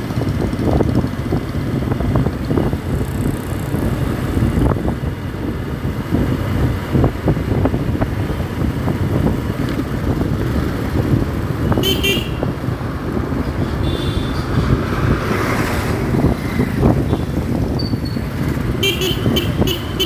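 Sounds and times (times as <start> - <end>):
motorcycle engine rumble: 0.0 - 20.0
road noise: 0.0 - 20.0
wind buffeting microphone: 0.0 - 20.0.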